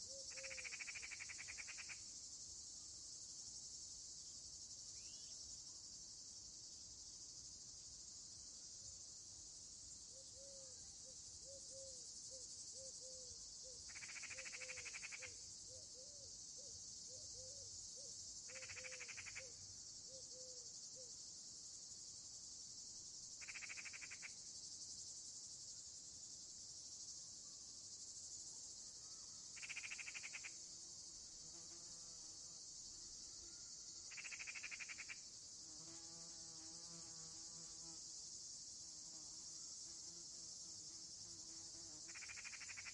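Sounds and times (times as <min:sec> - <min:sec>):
loud pulsed insect trill: 0:00.0 - 0:05.6, 0:11.7 - 0:42.9
crickets trilling: 0:00.0 - 0:42.9.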